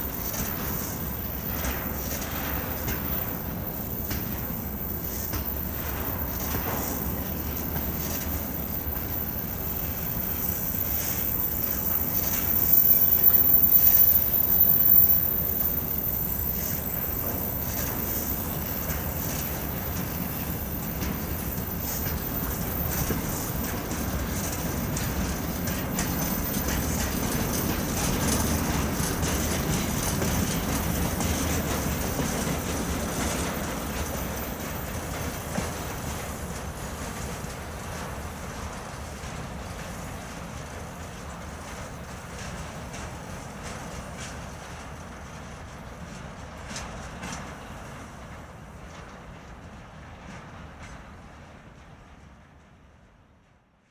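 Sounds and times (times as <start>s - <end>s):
high wheel squeal: 0.0s - 44.3s.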